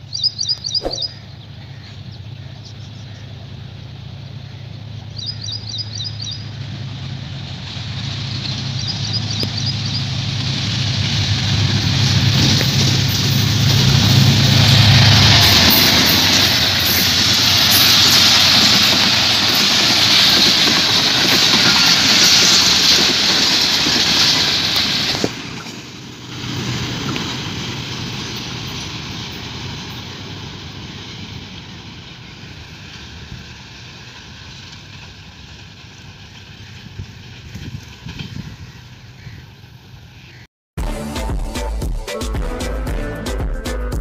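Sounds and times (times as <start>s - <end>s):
train wheels rushing on rail: 0.0s - 40.4s.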